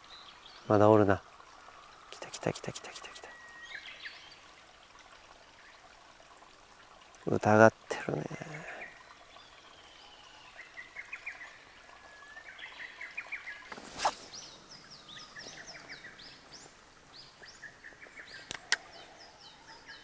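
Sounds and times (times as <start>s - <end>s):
small birds chirping: 0.0s - 4.6s, 7.2s - 20.0s.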